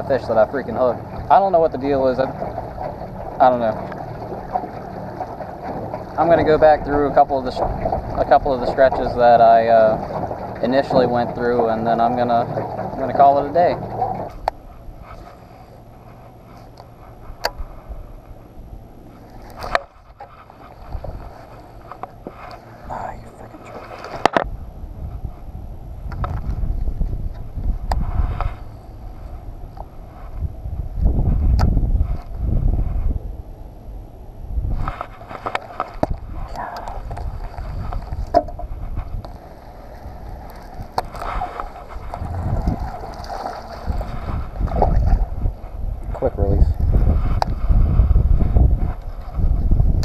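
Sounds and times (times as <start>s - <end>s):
steady low rumble: 0.0s - 50.0s
wind buffeting microphone: 0.0s - 50.0s.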